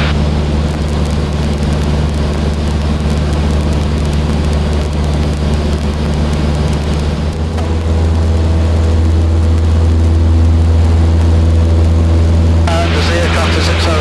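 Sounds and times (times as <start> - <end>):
airplane engine and propeller droning: 0.0 - 14.0.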